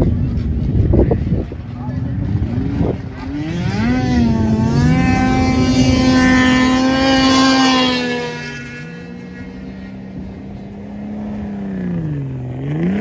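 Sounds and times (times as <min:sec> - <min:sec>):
snowmobile engine revving past: 0:02.3 - 0:13.0.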